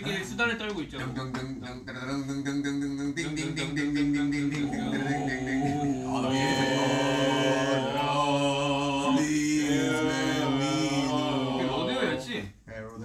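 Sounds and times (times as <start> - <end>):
chant-like vocal notes: 1.2 - 12.4.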